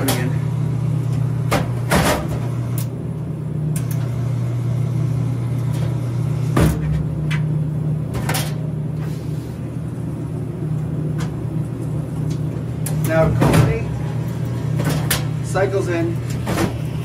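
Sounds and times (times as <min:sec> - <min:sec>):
vending machine humming: 0:00.0 - 0:17.0.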